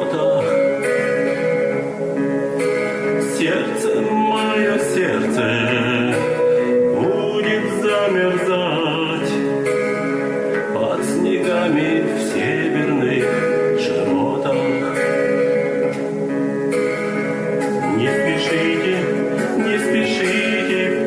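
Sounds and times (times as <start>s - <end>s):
man singing long held notes: 0.0s - 1.9s, 3.2s - 9.8s, 10.5s - 15.9s, 17.6s - 21.0s
instrumental accompaniment: 0.0s - 21.0s.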